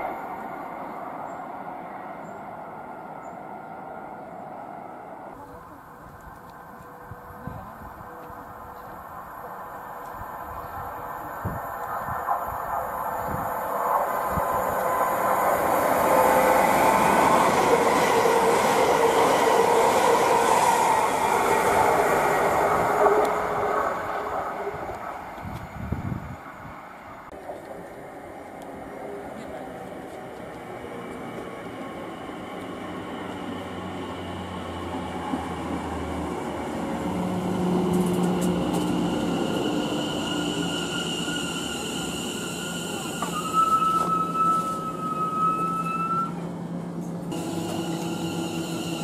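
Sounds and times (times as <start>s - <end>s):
train wheels rushing on rails: 5.6s - 49.0s.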